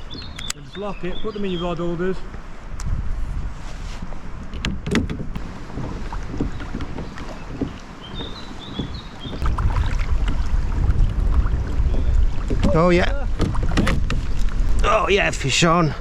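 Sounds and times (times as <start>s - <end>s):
wind rumbling on microphone: 0.0s - 16.0s
kayak moving on water: 2.2s - 16.0s.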